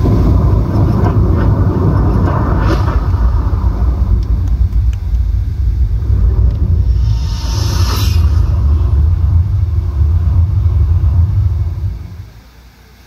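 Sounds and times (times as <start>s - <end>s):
deep fountain rumble: 0.0s - 12.5s.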